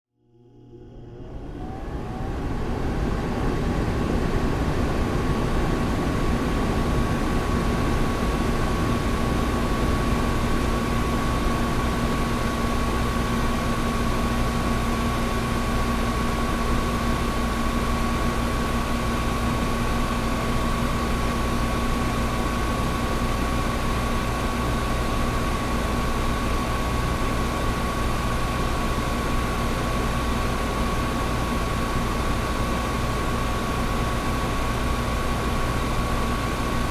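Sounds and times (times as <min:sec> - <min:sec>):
window air conditioner running: 0:00.2 - 0:36.9.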